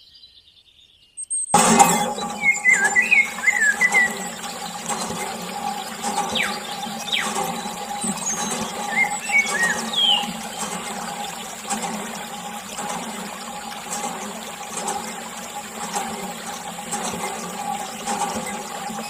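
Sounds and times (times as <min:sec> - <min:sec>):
water splashing onto wet soil: 0:01.6 - 0:19.0.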